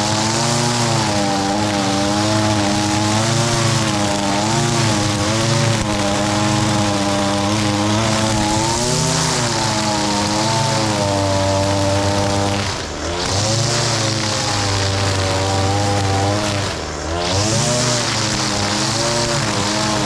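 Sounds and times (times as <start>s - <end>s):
string trimmer engine at high throttle: 0.0s - 20.0s
trimmer line cutting grass: 0.0s - 20.0s.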